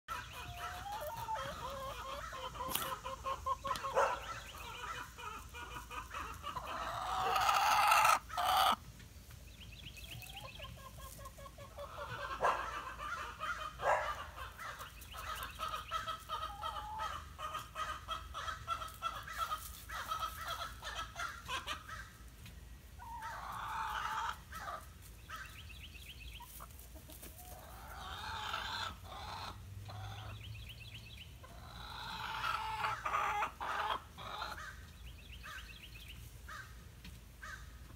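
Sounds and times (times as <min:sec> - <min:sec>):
chickens clucking: 0:00.1 - 0:37.9.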